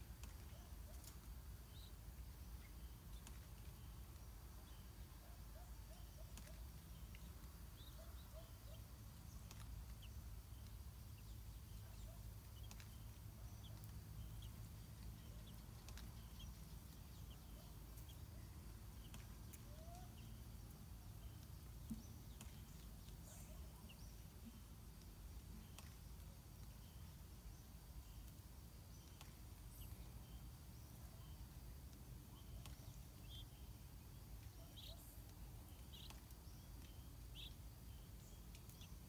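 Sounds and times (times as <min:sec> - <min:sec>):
faint bird chirps: 0:00.3 - 0:39.0.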